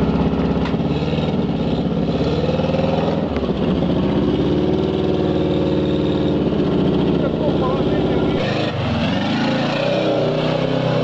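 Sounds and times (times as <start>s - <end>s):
car engine revving hard: 0.0s - 11.0s
wheels churning through mud: 0.0s - 11.0s.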